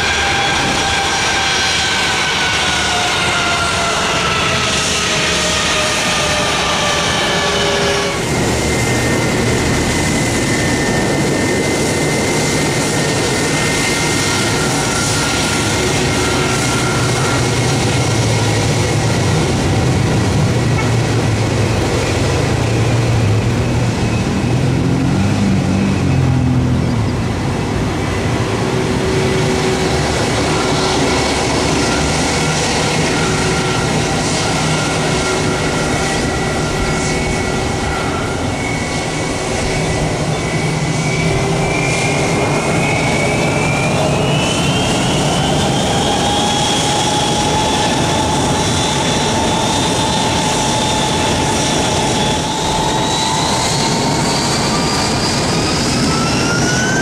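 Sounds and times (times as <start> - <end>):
jet engines at taxi power: 0.0 - 57.0
turboprop engine whine: 0.0 - 57.0.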